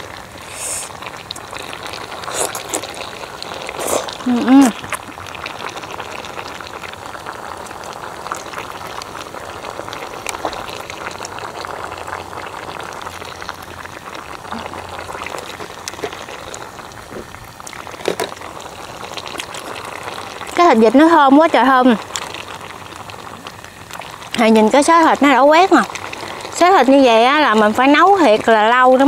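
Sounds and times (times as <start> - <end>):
broth boiling and bubbling: 0.0 - 29.0.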